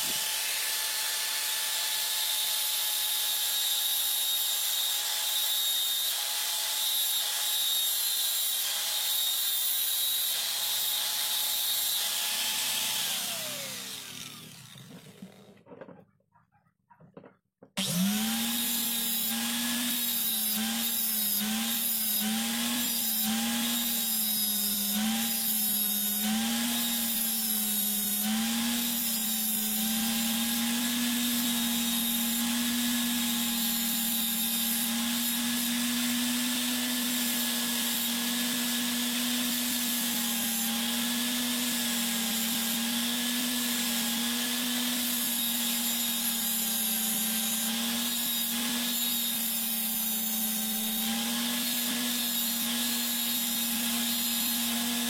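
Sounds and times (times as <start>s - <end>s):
electric sander grinding metal: 0.0s - 15.6s, 17.8s - 55.0s.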